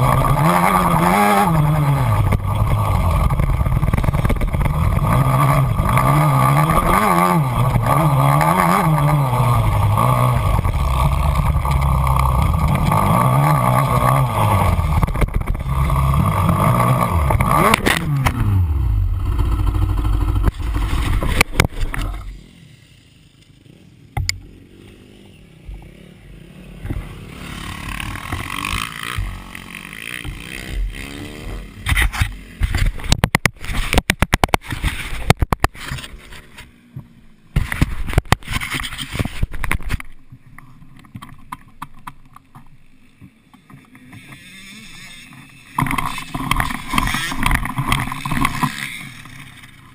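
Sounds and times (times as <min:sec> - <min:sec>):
engine running with varying pitch: 0:00.0 - 0:40.4, 0:41.0 - 0:49.9.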